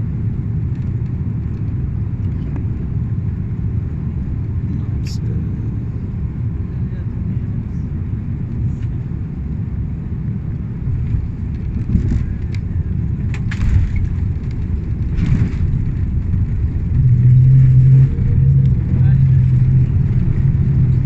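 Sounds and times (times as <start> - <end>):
airliner engine and airflow rumble: 0.0 - 21.0.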